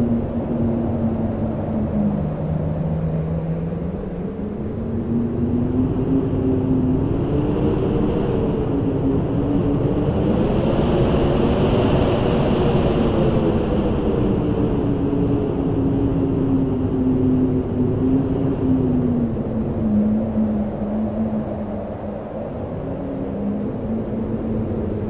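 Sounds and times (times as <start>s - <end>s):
wind howling: 0.0s - 25.0s.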